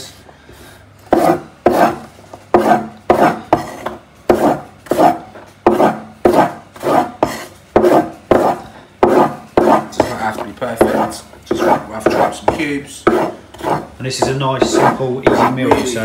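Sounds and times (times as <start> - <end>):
knife chopping on wooden board: 1.1 - 16.0.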